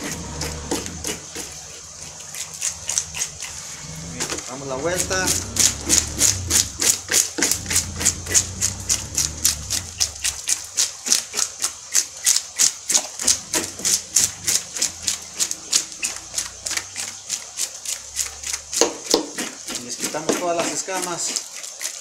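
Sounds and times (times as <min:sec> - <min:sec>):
scaler scraping fish scales: 0:00.0 - 0:22.0.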